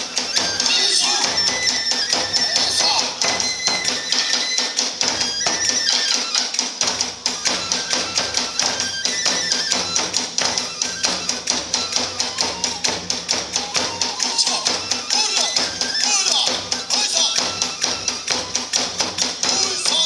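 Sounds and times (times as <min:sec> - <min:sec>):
clashing small hand cymbals: 0:00.0 - 0:20.0
rapid drum strokes: 0:00.0 - 0:20.0
transverse flute melody: 0:00.0 - 0:20.0.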